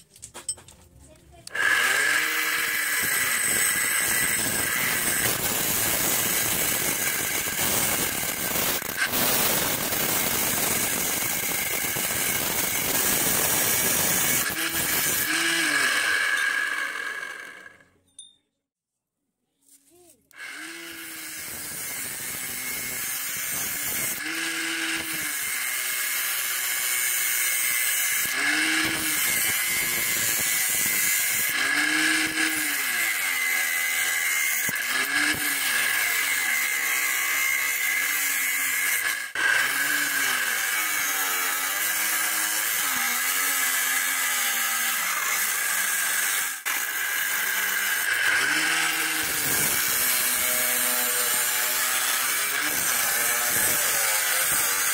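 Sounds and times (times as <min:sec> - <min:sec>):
angle grinder running: 0:01.4 - 0:17.8, 0:20.3 - 0:54.9.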